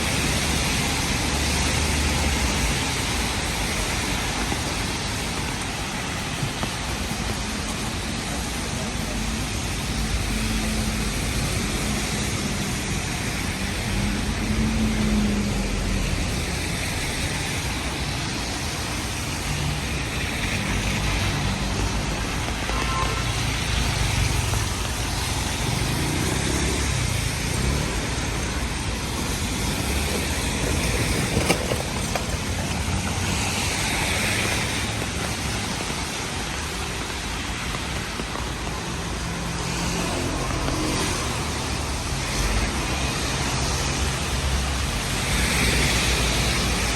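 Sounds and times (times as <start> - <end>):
rain and wet tyres hissing: 0.0 - 46.9
road traffic passing: 0.0 - 46.9.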